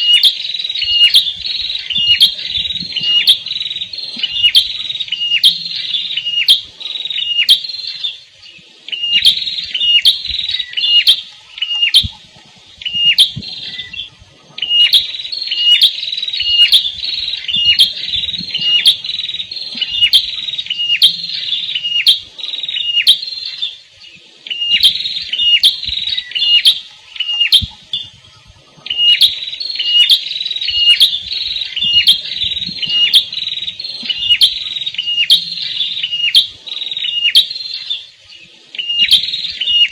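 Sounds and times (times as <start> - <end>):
songbird chirping sharp high notes: 0.0 - 12.2, 12.8 - 28.2, 28.8 - 39.9.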